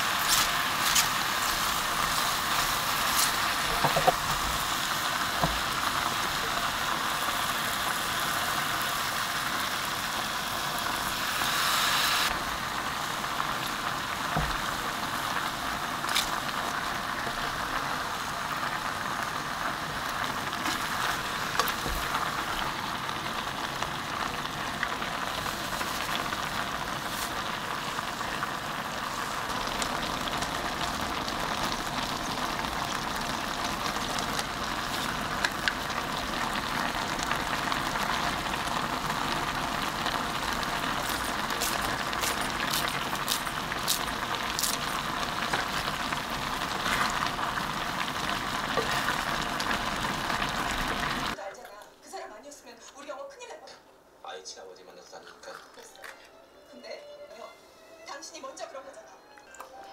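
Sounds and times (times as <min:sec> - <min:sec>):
food sizzling in a pot: 0:00.0 - 0:51.4.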